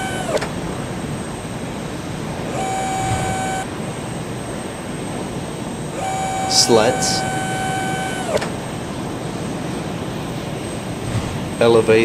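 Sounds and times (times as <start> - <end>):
high whine: 0.0 - 12.0
jet engine roar: 0.0 - 12.0.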